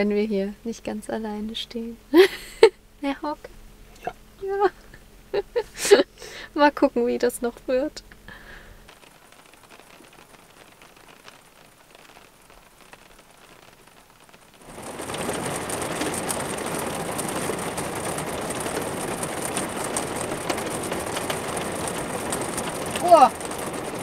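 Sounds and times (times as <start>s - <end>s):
heavy rain hissing: 2.1s - 24.0s
raindrops ticking: 4.0s - 24.0s.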